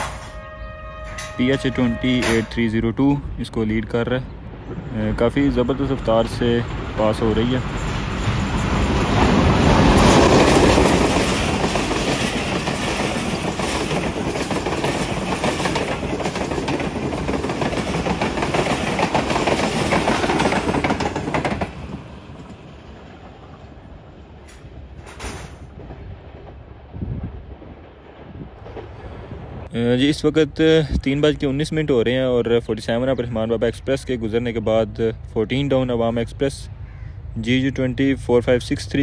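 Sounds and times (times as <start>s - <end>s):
passenger train rushing past: 0.0s - 39.0s.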